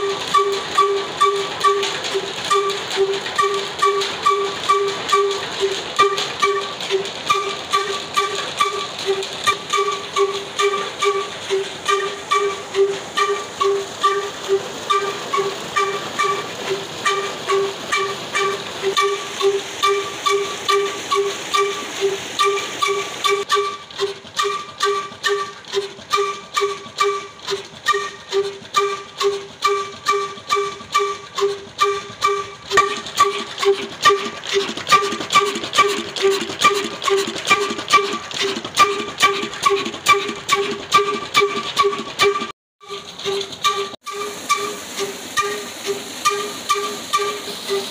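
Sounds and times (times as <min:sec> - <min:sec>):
diesel engine driving a pump: 0:00.0 - 0:47.9.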